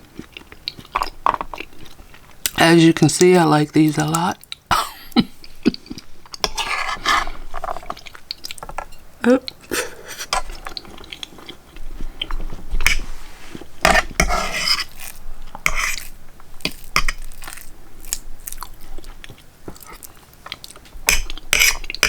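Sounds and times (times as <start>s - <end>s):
person chewing food: 0.0s - 2.6s, 3.3s - 22.0s.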